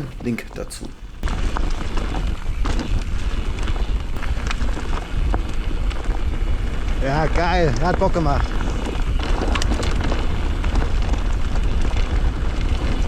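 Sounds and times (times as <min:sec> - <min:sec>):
tyres rolling over dirt: 0:00.0 - 0:13.0
wind buffeting microphone: 0:00.0 - 0:13.0.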